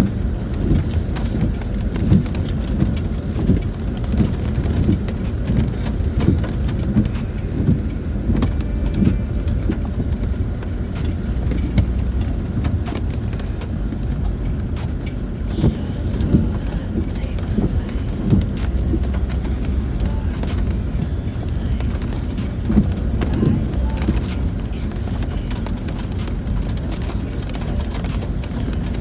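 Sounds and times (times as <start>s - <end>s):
knocks and clicks over bumps: 0.0s - 29.0s
vehicle drivetrain and tyre rumble: 0.0s - 29.0s.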